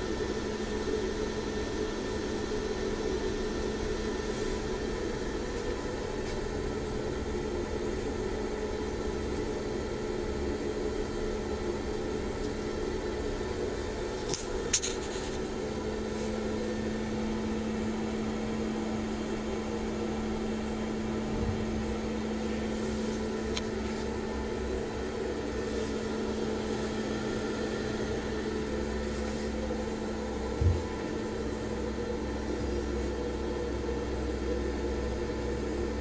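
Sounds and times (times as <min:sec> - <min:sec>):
cooling fans and motors humming: 0:00.0 - 0:36.0.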